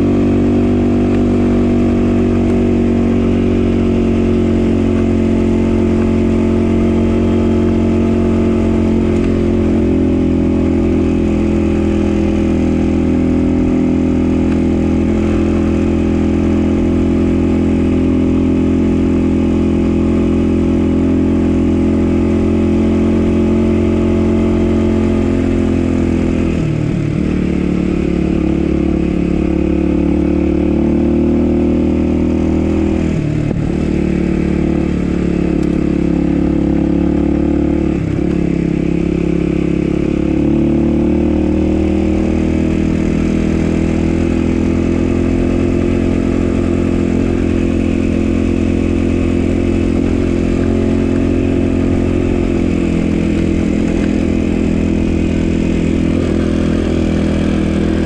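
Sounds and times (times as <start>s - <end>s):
dirt bike engine running: 0.0s - 58.0s.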